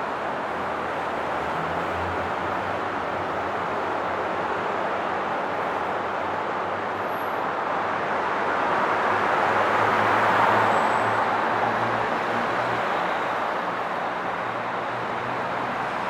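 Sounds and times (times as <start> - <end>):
highway traffic rush: 0.0 - 16.0.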